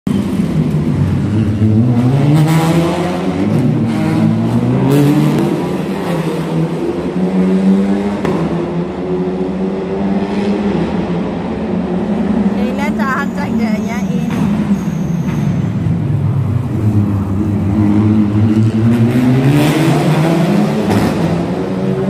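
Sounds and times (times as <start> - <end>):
race car engines revving: 0.1 - 22.0.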